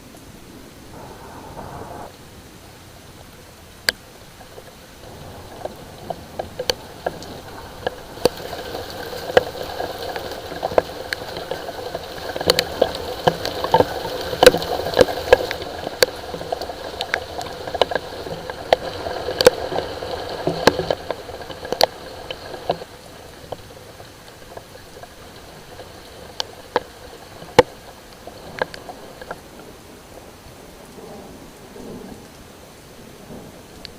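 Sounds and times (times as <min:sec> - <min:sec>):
rain patter: 0:00.0 - 0:33.9
raindrops splashing on hard surface: 0:03.1 - 0:33.9.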